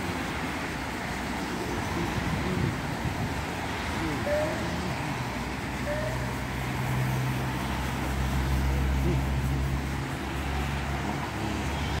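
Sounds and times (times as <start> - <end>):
passing vehicle engine hum: 0.0 - 12.0.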